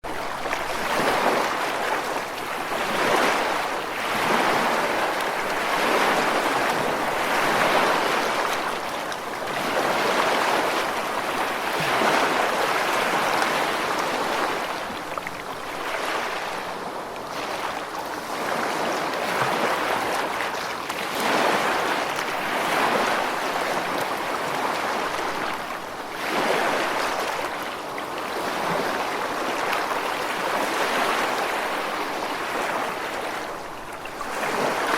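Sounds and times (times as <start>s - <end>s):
ocean waves breaking: 0.0s - 34.9s.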